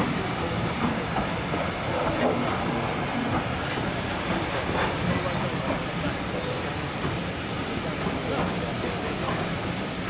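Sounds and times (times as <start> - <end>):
train coaches rumbling past: 0.0 - 10.0.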